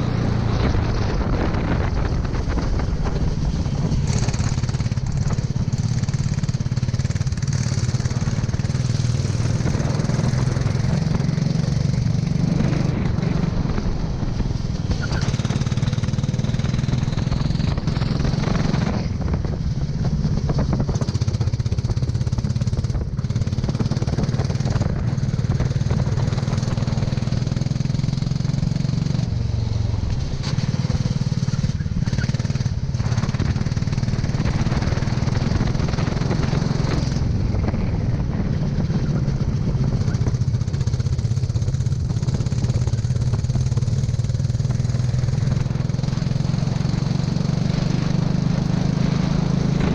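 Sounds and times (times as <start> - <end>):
go-kart engine running hard: 0.0 - 49.9.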